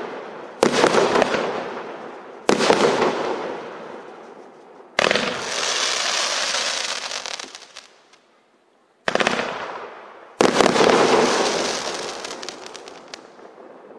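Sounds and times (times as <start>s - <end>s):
firework crackling and hissing: 0.0s - 8.3s, 10.3s - 13.9s
firework shots with sharp reports: 0.0s - 8.3s, 9.0s - 13.9s.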